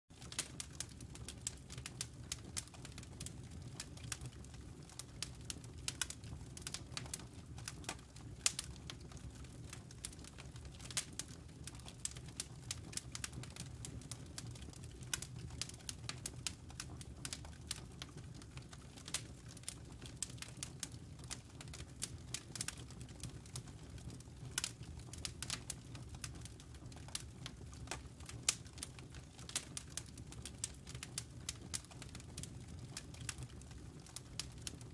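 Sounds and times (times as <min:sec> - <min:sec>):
campfire crackling: 0:00.2 - 0:34.9.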